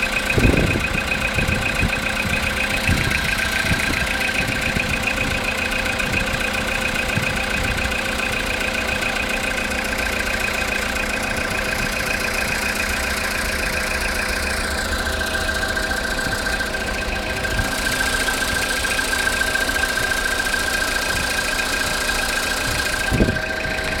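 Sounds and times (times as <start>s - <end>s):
car engine idling with knocking: 0.0s - 24.0s.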